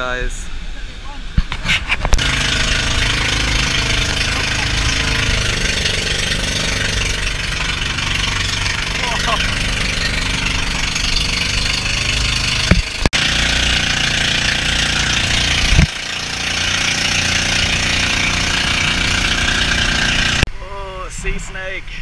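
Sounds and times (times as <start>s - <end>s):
wind: 0.0s - 22.0s
boat engine running: 0.7s - 20.5s
sharp thumps: 1.3s - 20.5s
water spray: 1.5s - 20.5s.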